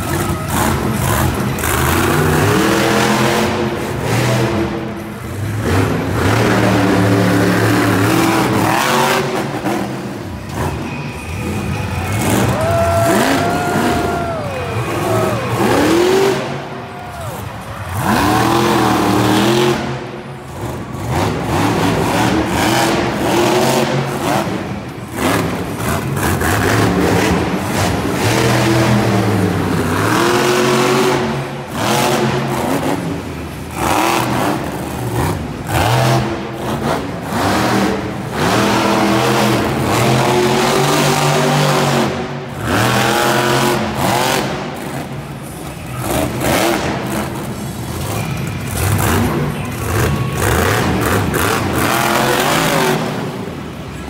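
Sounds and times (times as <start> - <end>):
truck engine revving: 0.0 - 16.8, 17.4 - 54.0.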